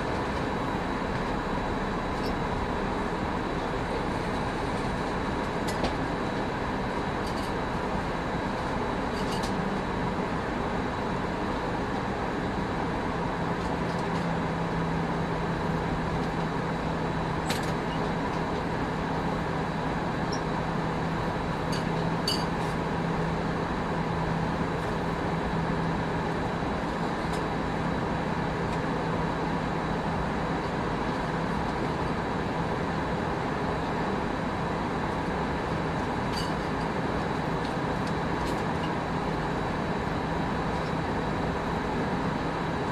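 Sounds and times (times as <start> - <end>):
airplane cabin engine and airflow rush: 0.0 - 42.9.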